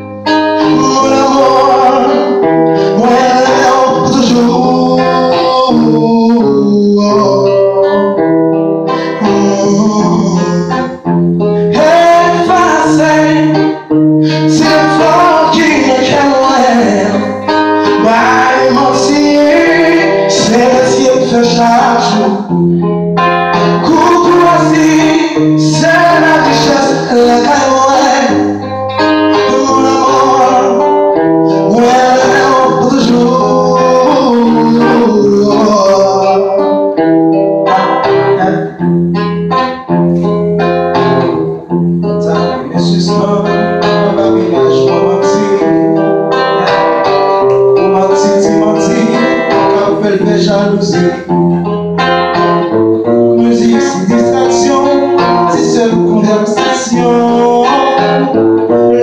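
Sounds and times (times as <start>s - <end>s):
man singing into microphone: 0.0s - 8.3s, 8.9s - 22.6s, 23.5s - 38.9s, 42.0s - 51.6s, 52.4s - 59.0s
acoustic guitar: 0.0s - 59.0s.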